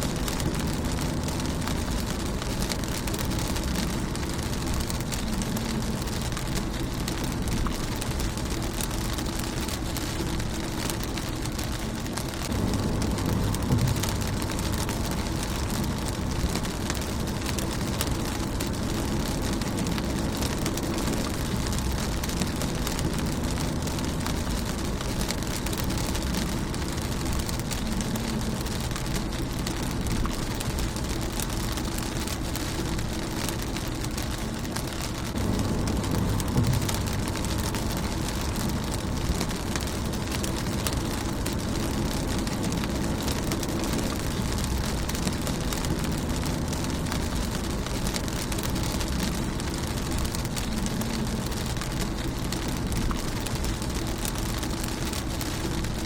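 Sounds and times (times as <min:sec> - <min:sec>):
low rumble: 0:00.0 - 0:56.0
rain on car windshield: 0:00.0 - 0:56.0.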